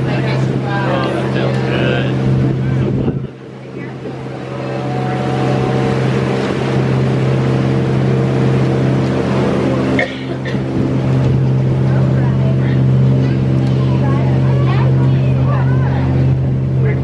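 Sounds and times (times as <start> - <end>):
boat engine droning: 0.0 - 17.0
rushing water: 0.0 - 17.0
wind: 0.0 - 17.0.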